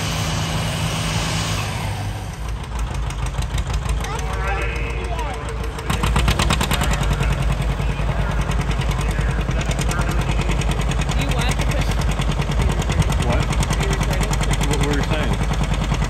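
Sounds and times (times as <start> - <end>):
tractor engine under load: 0.0 - 16.0
exhaust popping rhythmically: 2.4 - 16.0.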